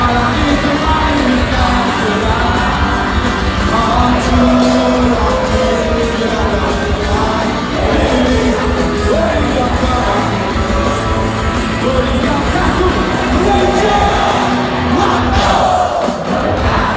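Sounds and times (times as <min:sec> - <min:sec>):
live rock band playing: 0:00.0 - 0:16.9
person singing: 0:00.0 - 0:16.9.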